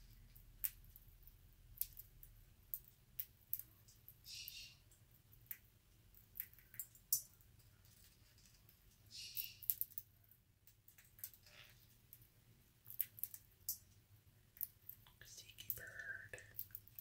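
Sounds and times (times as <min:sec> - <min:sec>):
parakeet cracking seeds: 0:00.3 - 0:17.0.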